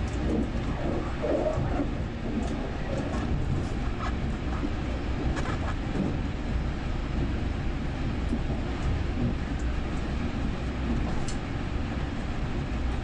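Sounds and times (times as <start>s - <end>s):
track machine rumbling: 0.0s - 13.0s.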